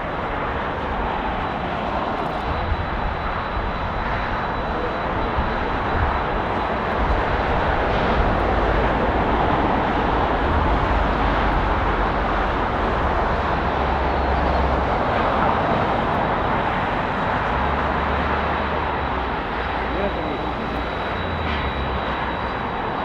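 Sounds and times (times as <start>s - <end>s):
wind rumble on microphone: 0.0s - 19.8s
jet engines roaring: 0.0s - 23.0s.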